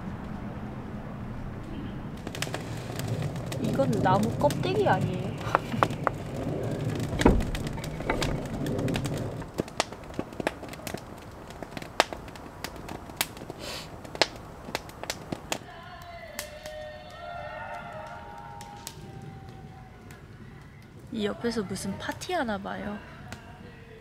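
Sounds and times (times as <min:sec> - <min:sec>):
faint distant singing: 0:00.0 - 0:10.0, 0:14.4 - 0:24.0
wood fire crackling and popping: 0:02.1 - 0:24.0.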